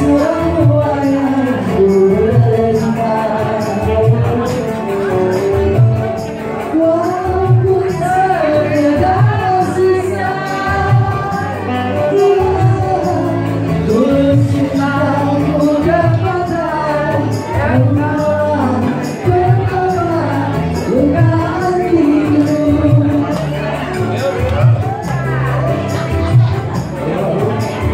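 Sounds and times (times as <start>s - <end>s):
amplified backing music: 0.0s - 27.9s
women singing pop song: 0.0s - 27.9s.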